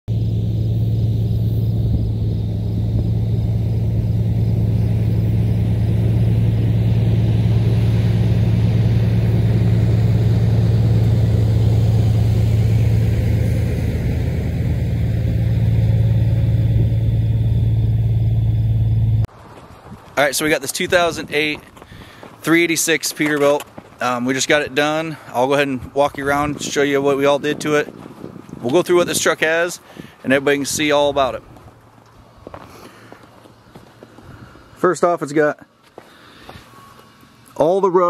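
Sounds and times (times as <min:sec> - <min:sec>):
diesel truck engine drone: 0:00.0 - 0:38.0.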